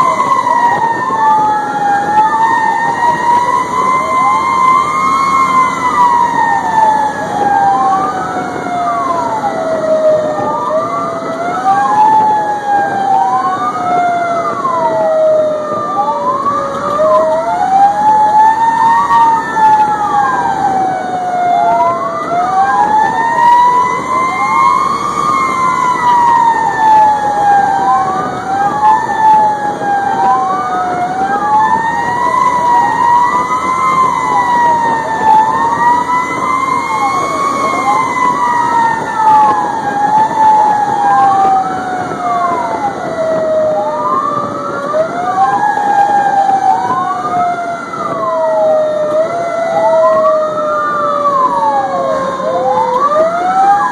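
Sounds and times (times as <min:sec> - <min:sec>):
siren fast sweeping tone: 0:00.0 - 0:53.9
siren slow wail: 0:00.0 - 0:53.9.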